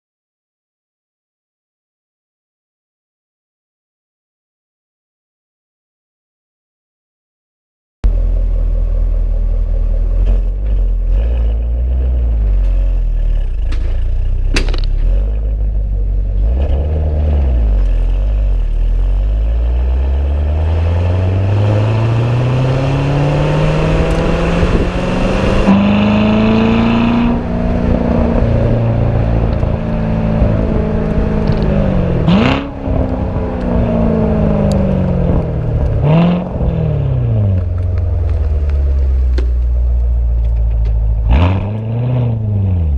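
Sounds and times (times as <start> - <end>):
sports car engine accelerating: 8.1 - 42.9.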